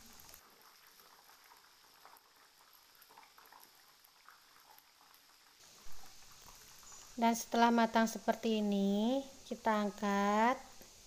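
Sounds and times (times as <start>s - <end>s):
battered food deep-frying in oil: 0.0s - 11.0s.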